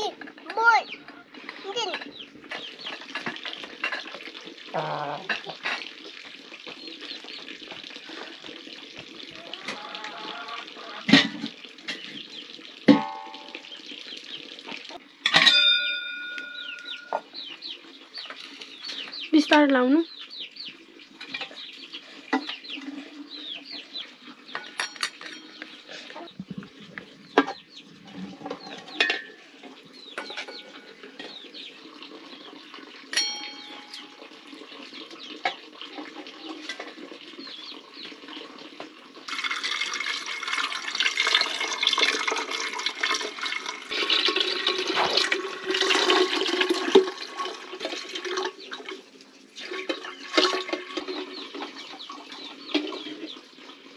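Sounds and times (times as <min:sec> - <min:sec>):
water pouring into a metal kettle: 0:00.0 - 0:19.2, 0:20.4 - 0:53.9.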